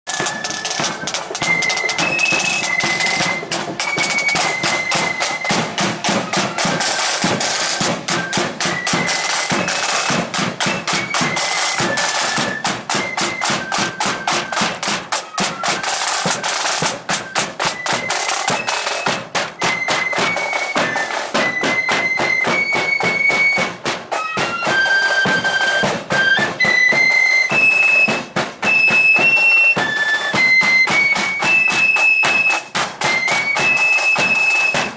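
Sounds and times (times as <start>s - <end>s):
flutes playing high melody: 0.1s - 34.9s
side drum beating: 0.1s - 34.9s.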